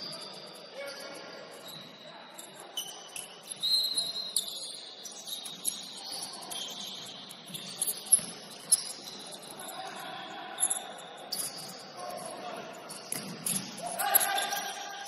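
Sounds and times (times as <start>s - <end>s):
sneakers squeaking on gym floor: 0.0s - 9.8s, 10.5s - 12.0s, 12.7s - 15.0s.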